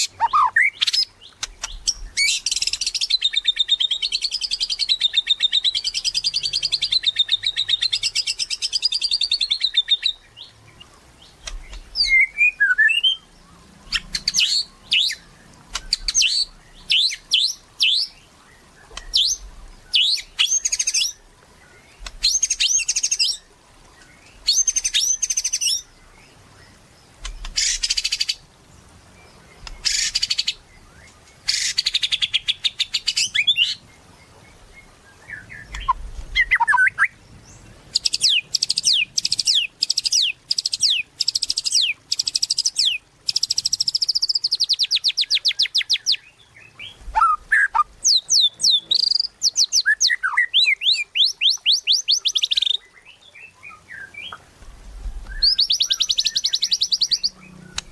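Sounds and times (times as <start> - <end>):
songbird trilling and chattering: 0.0 - 57.9.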